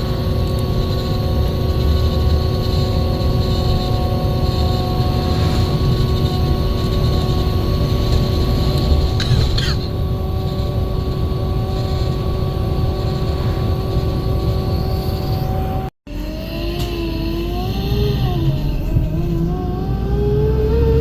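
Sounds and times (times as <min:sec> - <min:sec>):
bus engine and road rumble: 0:00.0 - 0:21.0
steady whines: 0:00.0 - 0:21.0.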